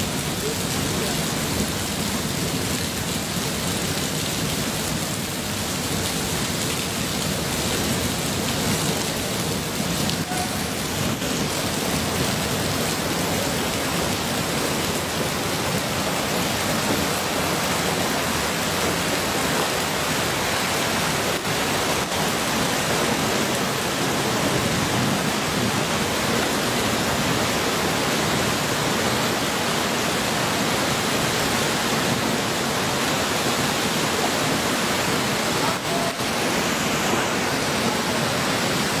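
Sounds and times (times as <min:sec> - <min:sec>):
flash flood water rushing: 0:00.0 - 0:39.0.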